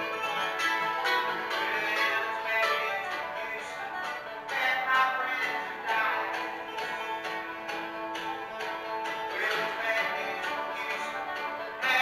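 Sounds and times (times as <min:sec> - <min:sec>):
acoustic guitar: 0:00.0 - 0:12.0
banjo: 0:00.0 - 0:12.0
mandolin: 0:00.0 - 0:12.0
upright double bass: 0:00.0 - 0:12.0.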